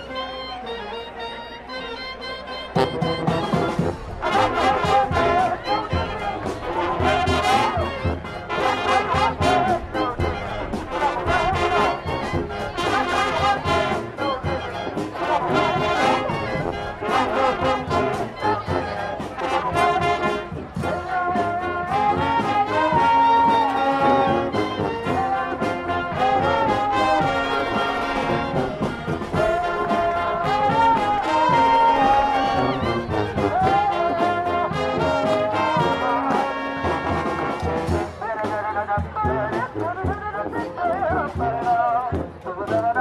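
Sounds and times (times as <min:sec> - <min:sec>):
brass horns playing melody: 0:00.0 - 0:42.7
steady drum beat: 0:02.8 - 0:43.0.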